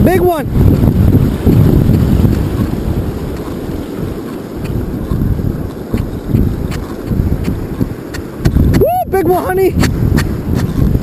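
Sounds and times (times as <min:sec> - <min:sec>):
breaking surf: 0:00.0 - 0:11.0
wind buffeting microphone: 0:00.0 - 0:11.0.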